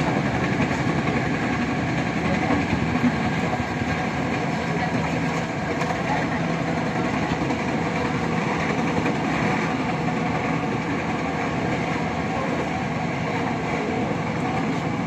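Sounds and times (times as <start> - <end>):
trains rumbling on rails: 0.0 - 15.0.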